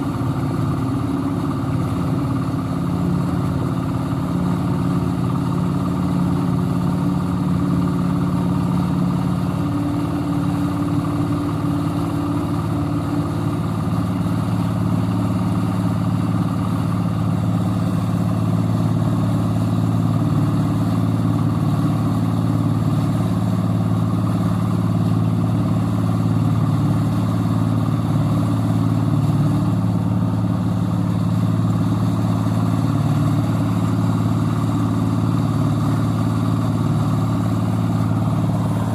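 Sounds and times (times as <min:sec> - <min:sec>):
concrete mixer engine running: 0:00.0 - 0:38.9.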